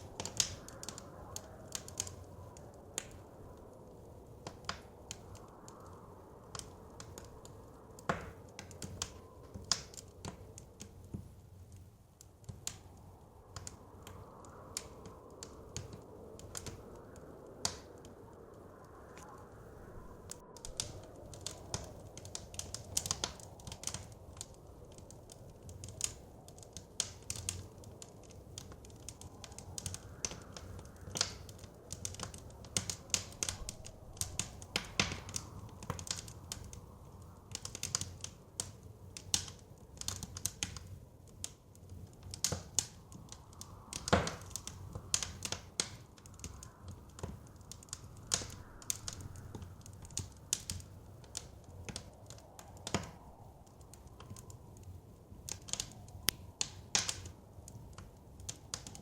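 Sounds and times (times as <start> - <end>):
wind howling: 0.0 - 59.0
wood fire crackling: 0.0 - 59.0.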